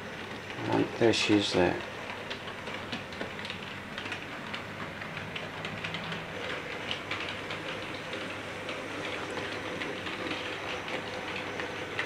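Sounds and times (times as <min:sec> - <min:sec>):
model train low hum: 0:00.0 - 0:12.0
wheels clicking over rail joints: 0:00.2 - 0:12.0.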